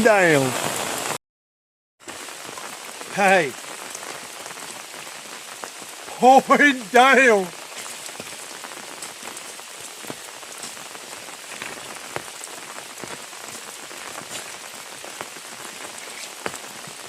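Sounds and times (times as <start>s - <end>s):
heavy rain pouring: 0.0s - 1.2s, 2.0s - 17.0s.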